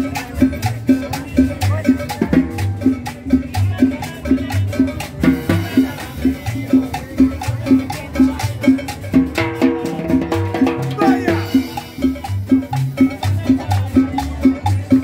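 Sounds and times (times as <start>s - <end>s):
bass line: 0.0s - 15.0s
latin dance music: 0.0s - 15.0s
percussion: 0.0s - 15.0s.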